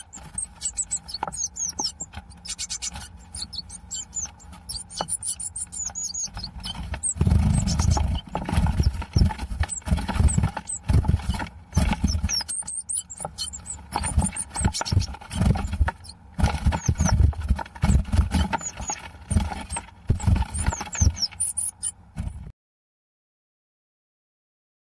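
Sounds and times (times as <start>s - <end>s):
small birds chirping: 0.0s - 22.5s.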